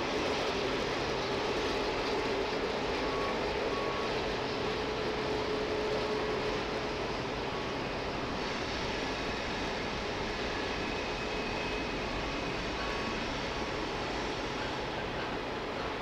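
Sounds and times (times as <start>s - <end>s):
train wheels on rail: 0.0s - 16.0s.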